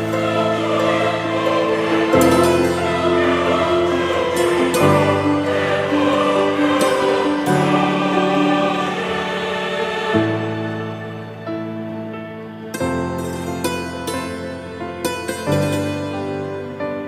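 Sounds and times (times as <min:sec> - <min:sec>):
slow music of held chords: 0:00.0 - 0:17.0.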